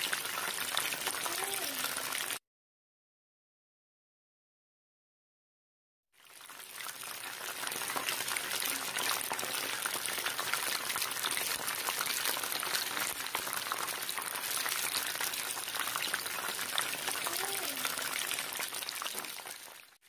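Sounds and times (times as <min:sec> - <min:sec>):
chicken sizzling in hot oil: 0:00.0 - 0:02.4, 0:06.2 - 0:20.0.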